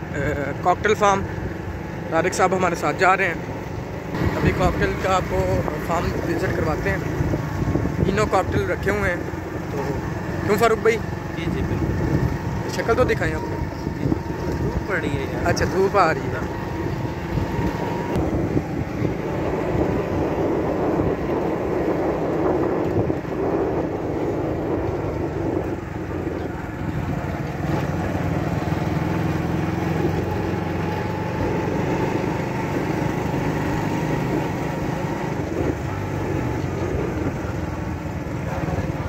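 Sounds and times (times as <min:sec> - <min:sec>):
motorcycle engines running: 0:00.0 - 0:39.0
road noise: 0:00.0 - 0:39.0.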